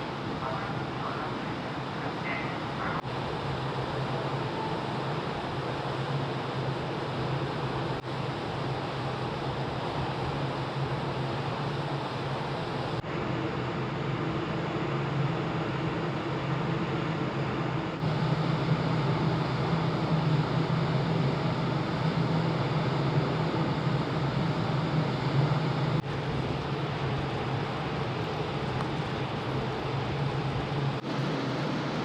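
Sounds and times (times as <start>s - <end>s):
ferry engine hum: 0.0s - 32.0s
rushing wind: 0.0s - 32.0s.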